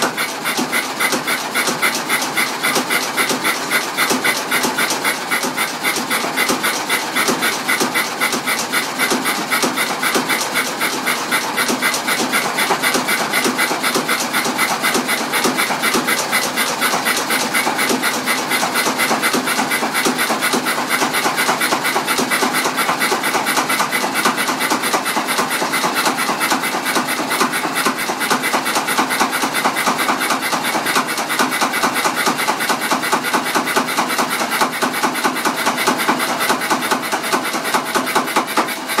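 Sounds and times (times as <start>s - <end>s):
petrol engine running: 0.0s - 39.0s.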